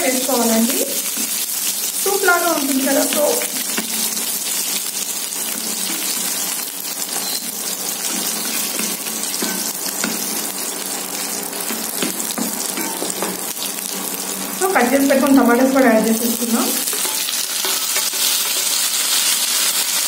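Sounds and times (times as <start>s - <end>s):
oil sizzling in a pan: 0.0s - 20.0s.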